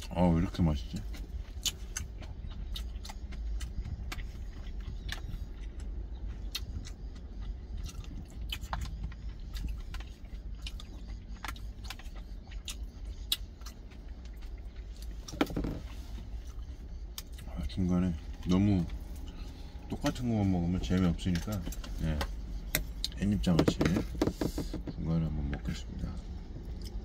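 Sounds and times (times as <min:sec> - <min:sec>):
chewing: 0:00.0 - 0:27.0
steady low rumble: 0:00.0 - 0:27.0.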